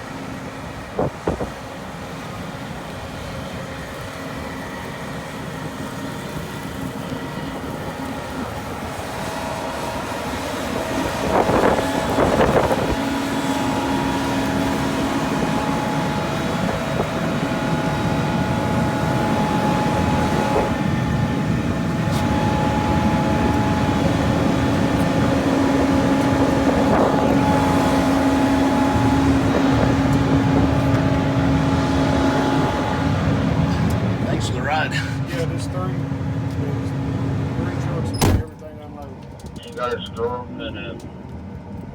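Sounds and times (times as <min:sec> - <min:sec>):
harvester engine drone: 0:00.0 - 0:41.9.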